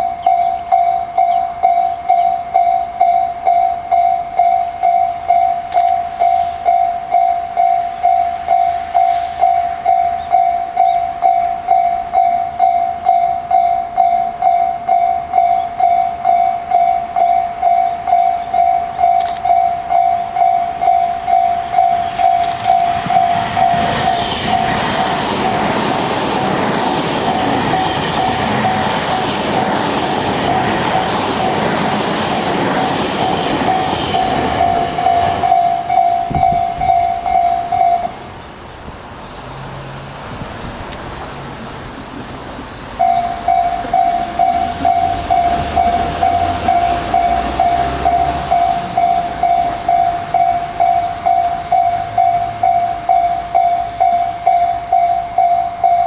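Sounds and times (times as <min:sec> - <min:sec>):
level crossing warning bell: 0:00.0 - 0:38.4, 0:43.0 - 0:56.0
electric train passing: 0:00.0 - 0:56.0.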